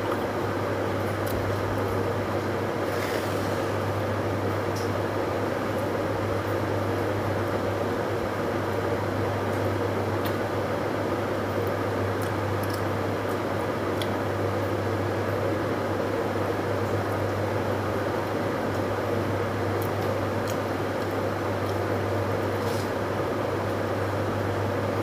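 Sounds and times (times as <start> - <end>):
appliance machine hum and hiss: 0.0 - 25.0.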